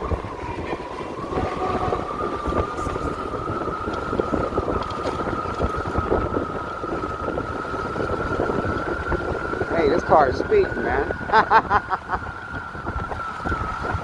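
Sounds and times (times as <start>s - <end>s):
electric motor whine: 0.0s - 11.5s
road and wind rumble: 0.0s - 14.0s.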